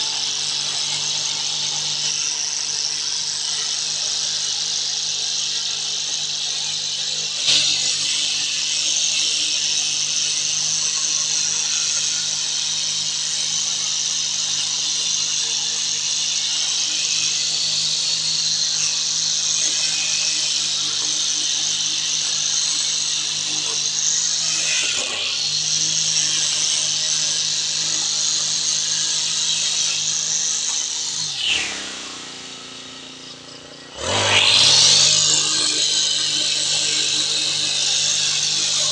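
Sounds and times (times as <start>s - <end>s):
brush cutter engine running: 0.0s - 38.9s
trimmer head cutting grass: 0.0s - 38.9s.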